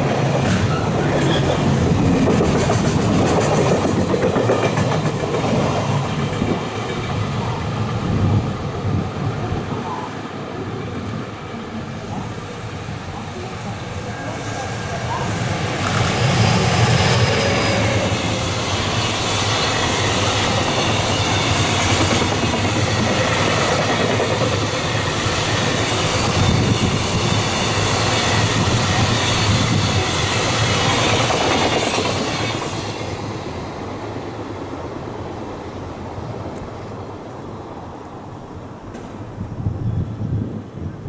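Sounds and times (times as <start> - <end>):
electric locomotive passing: 0.0 - 40.2.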